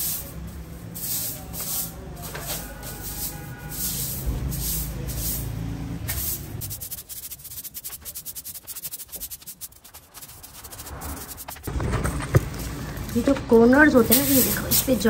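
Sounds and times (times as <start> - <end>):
broom sweeping concrete floor: 0.0 - 11.7, 13.8 - 15.0.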